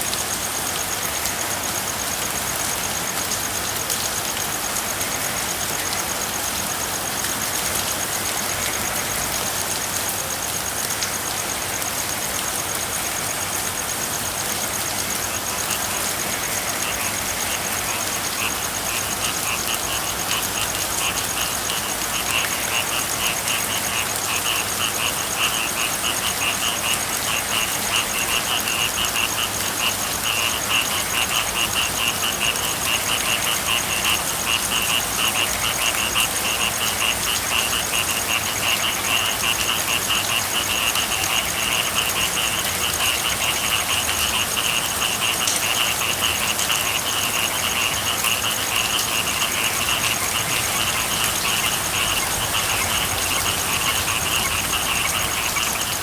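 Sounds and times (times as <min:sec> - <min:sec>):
steady rain: 0:00.0 - 0:56.0
frogs calling in pulsed trills: 0:00.1 - 0:56.0.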